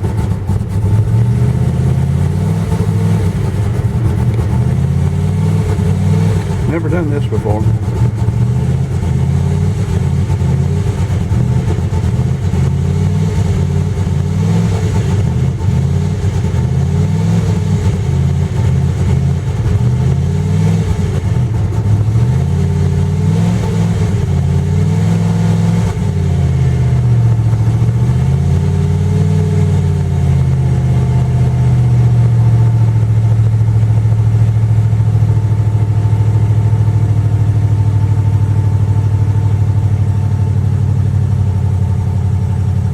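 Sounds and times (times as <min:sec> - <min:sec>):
car engine running rough: 0:00.0 - 0:42.9.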